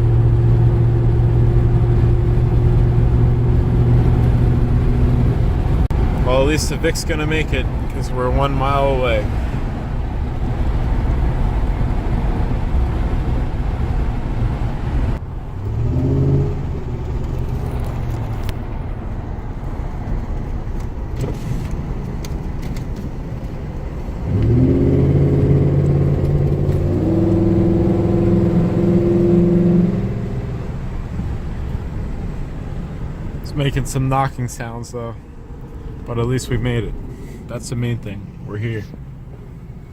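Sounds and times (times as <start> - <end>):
road rumble: 0.0 - 39.9.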